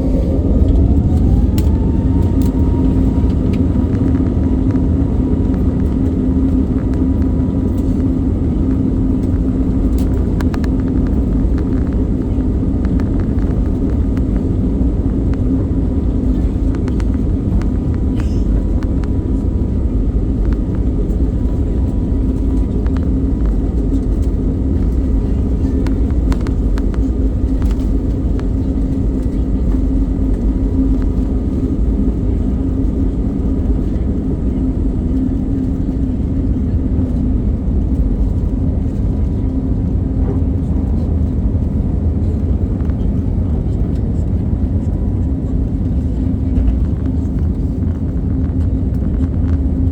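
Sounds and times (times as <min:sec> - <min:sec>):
jet cabin engine rumble: 0:00.0 - 0:49.9.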